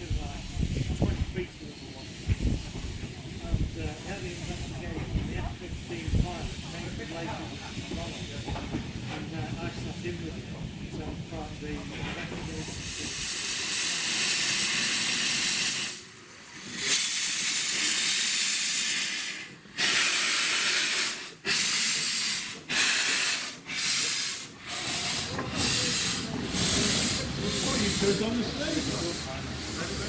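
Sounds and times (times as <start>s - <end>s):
steam locomotive hissing steam: 0.0s - 30.0s.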